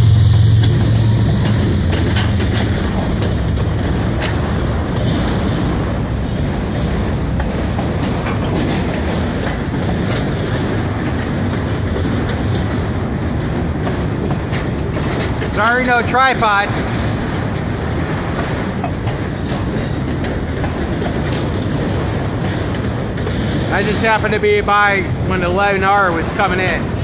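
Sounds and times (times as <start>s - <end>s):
locomotive engine drone: 0.0s - 27.0s
steel wheels rumbling on rail: 0.0s - 27.0s
wheels clicking over rail joints: 0.0s - 27.0s.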